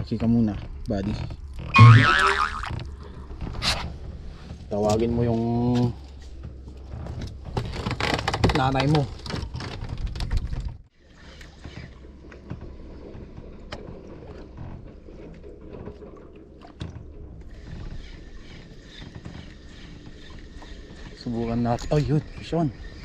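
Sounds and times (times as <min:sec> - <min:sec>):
water lapping against hull: 0:00.0 - 0:23.0.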